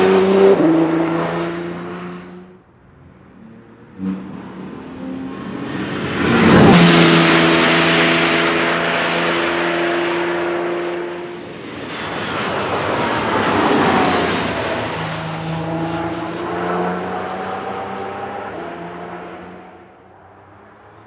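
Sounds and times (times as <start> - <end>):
race car passing at speed: 0.0 - 21.0.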